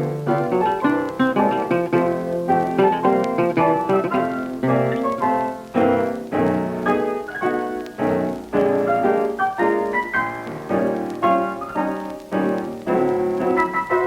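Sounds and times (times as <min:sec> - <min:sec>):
lively piano music: 0:00.0 - 0:14.0.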